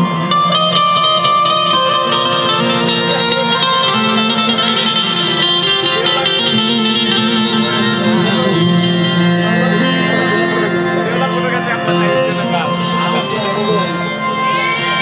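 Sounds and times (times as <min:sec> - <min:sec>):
devotional instrumental music: 0:00.0 - 0:15.0
steady held drone notes: 0:00.0 - 0:15.0.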